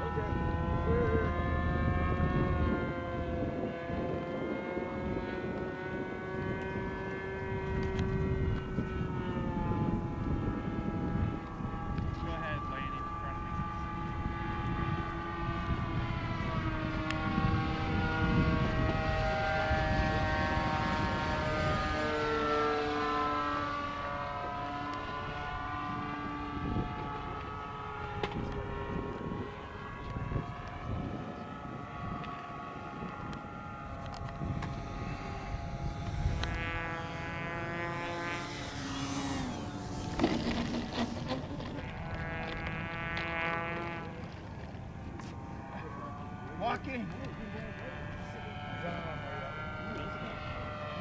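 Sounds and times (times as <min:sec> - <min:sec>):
model airplane engine buzzing: 0:00.0 - 0:51.0.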